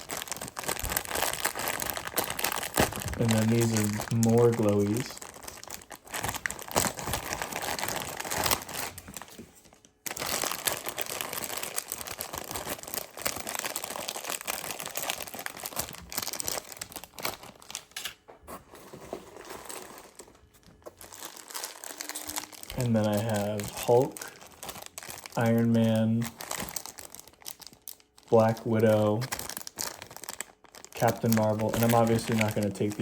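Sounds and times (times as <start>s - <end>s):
plastic packaging crinkling: 0.0s - 33.0s.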